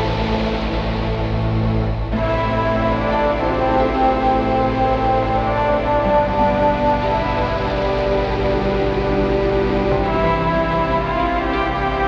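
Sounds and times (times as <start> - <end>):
pulsing bass: 0.0 - 12.0
slow instrumental music: 0.0 - 12.0.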